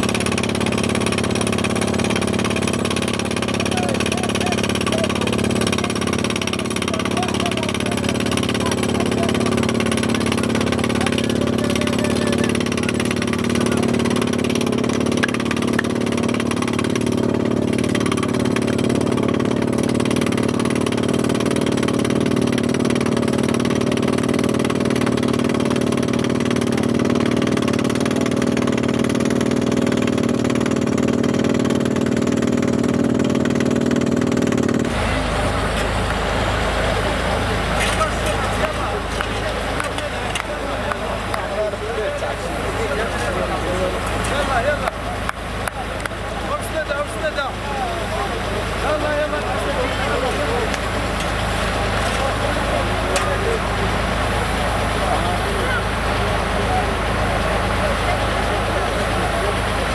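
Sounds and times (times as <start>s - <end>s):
drilling rig engine drone: 0.0s - 59.9s.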